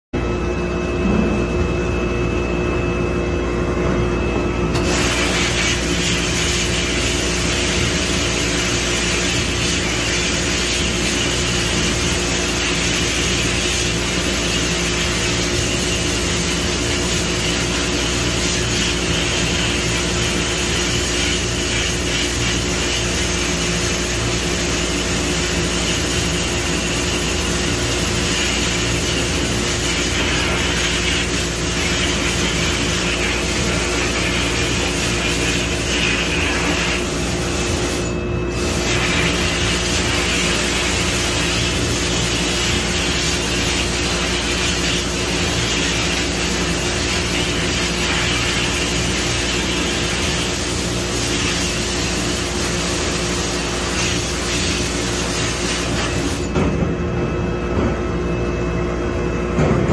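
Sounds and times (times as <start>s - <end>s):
machine hum: 0.2s - 50.9s.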